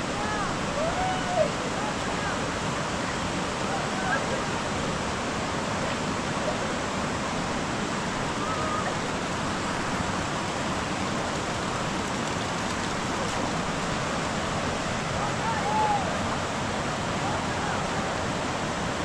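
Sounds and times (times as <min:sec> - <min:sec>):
heavy rain: 0:00.0 - 0:19.0
wind: 0:00.0 - 0:19.0.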